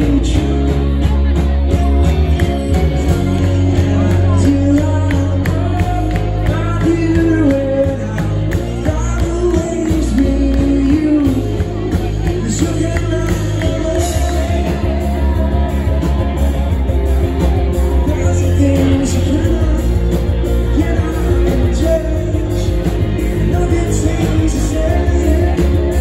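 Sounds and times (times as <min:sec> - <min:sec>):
live band playing: 0:00.0 - 0:26.0
person singing: 0:00.0 - 0:26.0.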